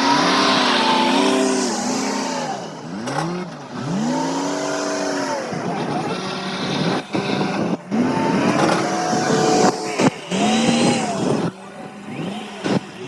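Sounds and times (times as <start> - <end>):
machine engine revving: 0.0 - 13.0.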